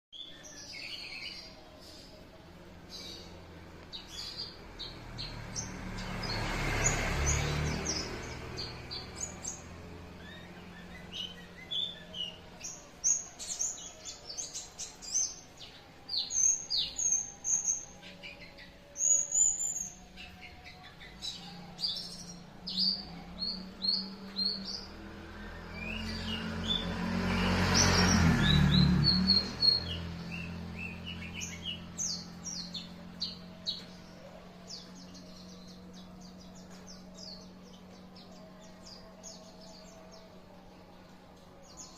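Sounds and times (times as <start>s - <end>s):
bird chirps and trills: 0.1s - 41.9s.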